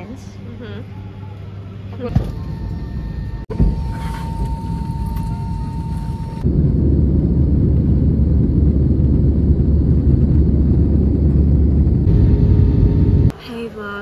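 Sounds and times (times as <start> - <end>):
jet engines rumbling in cabin: 0.0 - 14.0.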